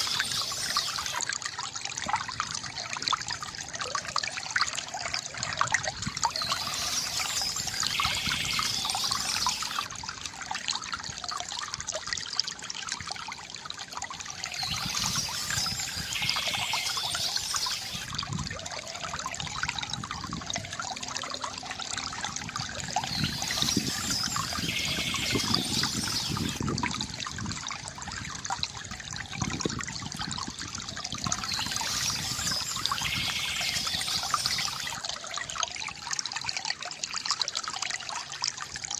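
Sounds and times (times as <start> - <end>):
water trickling from bamboo fountain: 0.0 - 38.9.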